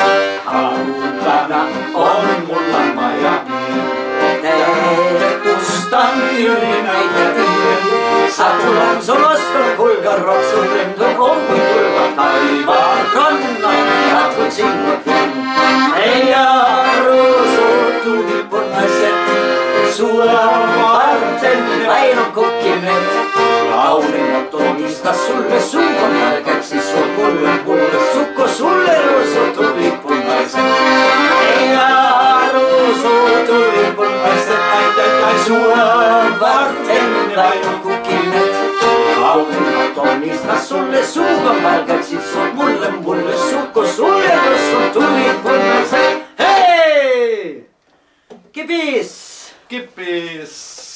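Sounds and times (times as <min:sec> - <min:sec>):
accordion melody: 0:00.0 - 0:46.8.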